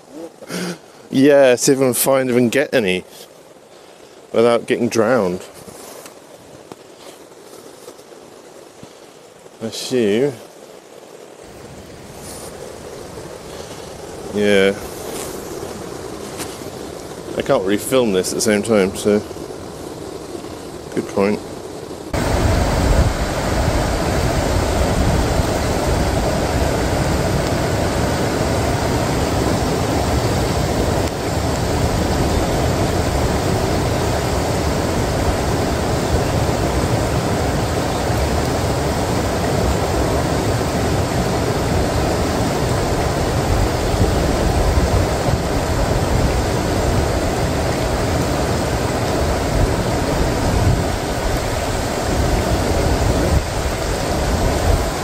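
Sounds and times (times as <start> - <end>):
fast-flowing river water: 10.6 - 55.0.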